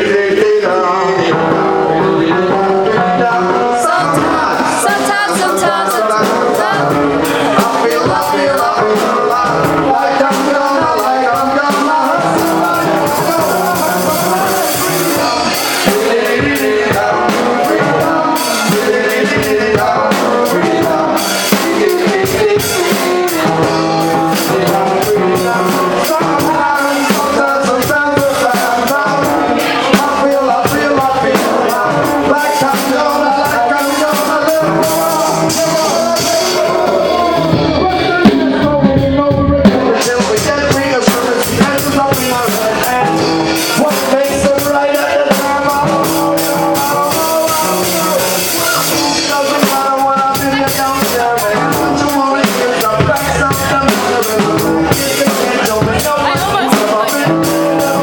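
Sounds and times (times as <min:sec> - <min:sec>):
drum kit beat: 0:00.0 - 0:58.0
electric guitars: 0:00.0 - 0:58.0.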